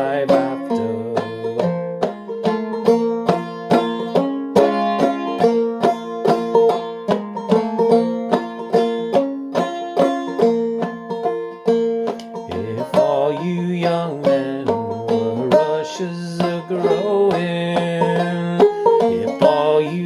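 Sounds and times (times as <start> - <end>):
banjo plucked notes: 0.0 - 20.0.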